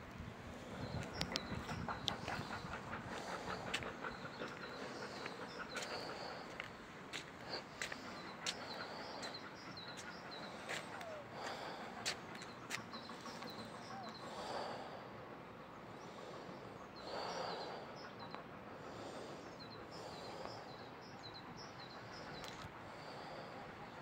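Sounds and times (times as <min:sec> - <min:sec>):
small birds chirping: 0:00.6 - 0:24.0.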